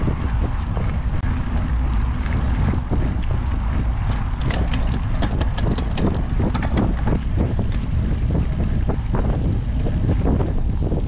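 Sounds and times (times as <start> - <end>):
bike clicks and rattles: 0.0 - 11.0
bike tyres rolling on gravel: 0.0 - 11.0
wind rumbling on microphone: 0.0 - 11.0.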